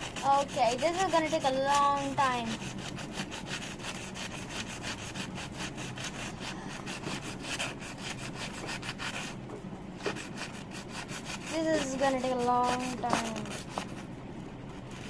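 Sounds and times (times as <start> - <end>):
blade rasping on sandpaper: 0.0 - 9.4, 10.0 - 14.1.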